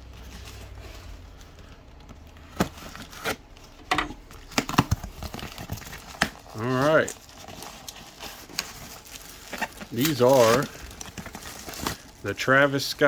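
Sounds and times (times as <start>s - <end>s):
packaging knocks and rustles: 0.0s - 13.0s.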